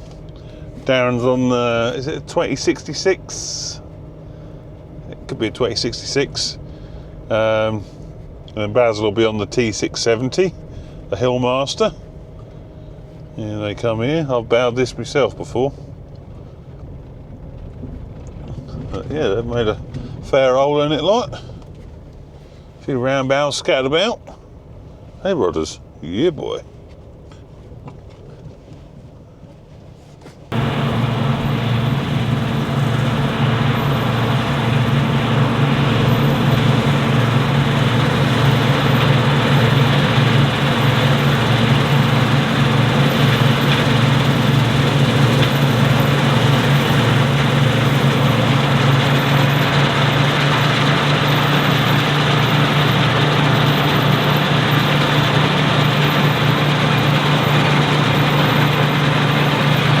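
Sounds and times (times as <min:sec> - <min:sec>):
large diesel engine droning: 0:00.0 - 0:26.1, 0:30.5 - 1:00.0.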